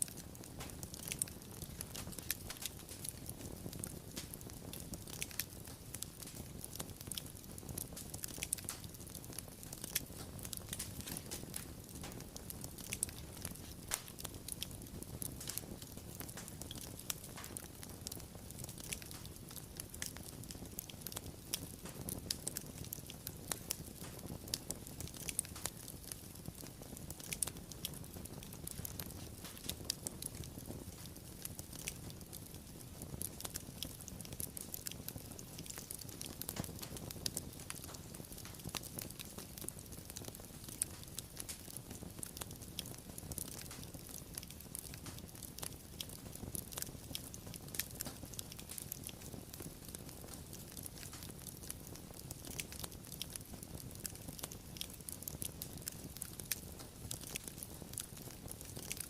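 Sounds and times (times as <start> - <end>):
low rumble of flame: 0.0 - 59.0
wood fire crackling: 0.0 - 59.0.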